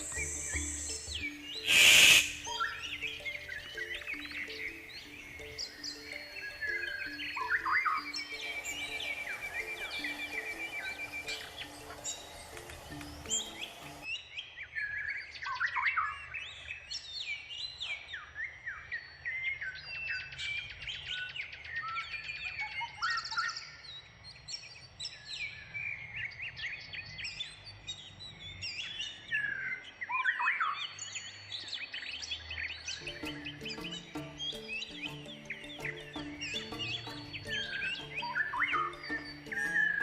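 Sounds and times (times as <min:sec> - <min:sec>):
birds singing: 0:00.0 - 0:40.0.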